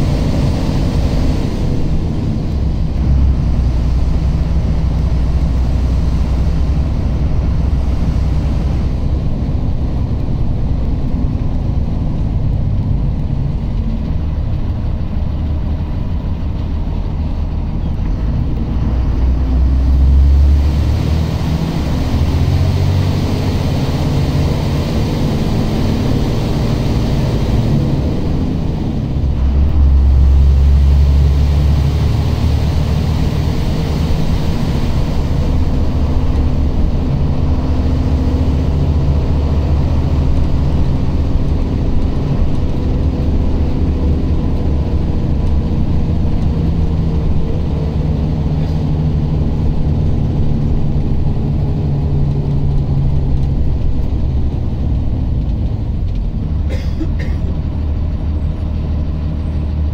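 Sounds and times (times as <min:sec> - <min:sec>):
vehicle engine and road rumble: 0:00.0 - 0:59.9.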